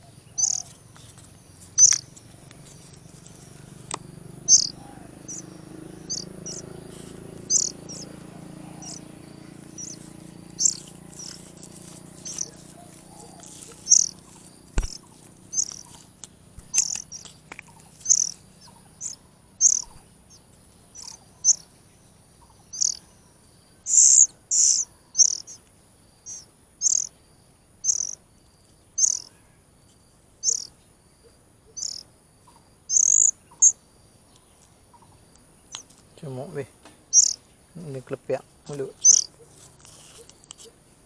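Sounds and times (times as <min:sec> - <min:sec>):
bird chicks begging chirps: 0:00.0 - 0:25.6, 0:26.2 - 0:27.2, 0:27.8 - 0:28.2, 0:29.0 - 0:29.3, 0:30.4 - 0:30.8, 0:31.7 - 0:33.8, 0:34.4 - 0:40.8.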